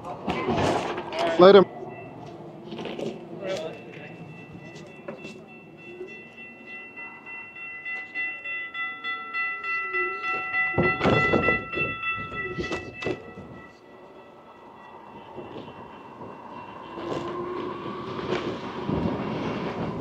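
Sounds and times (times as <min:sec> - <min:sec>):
railroad crossing bell ringing: 0:00.0 - 0:20.0.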